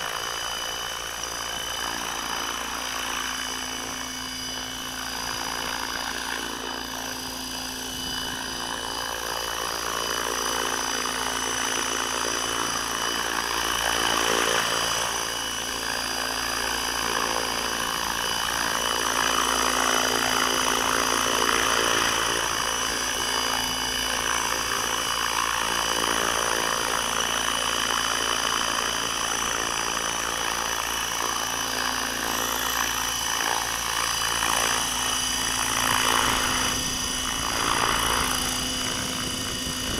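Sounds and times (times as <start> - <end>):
rc helicopter hovering whine: 0.0 - 39.9.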